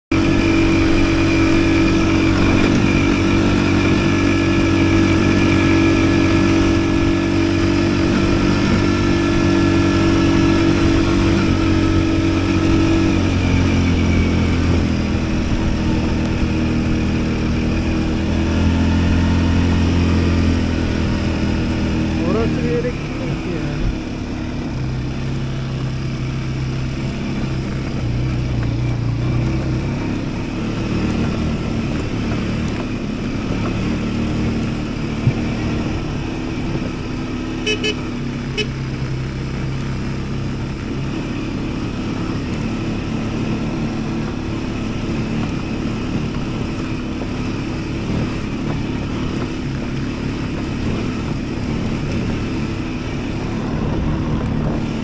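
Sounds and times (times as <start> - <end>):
mini atv engine running: 0.1 - 55.0.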